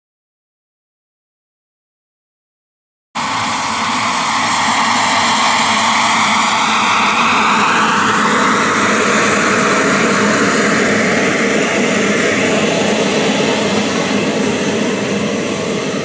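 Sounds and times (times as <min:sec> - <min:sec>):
model jet turbine roaring: 0:03.2 - 0:16.0.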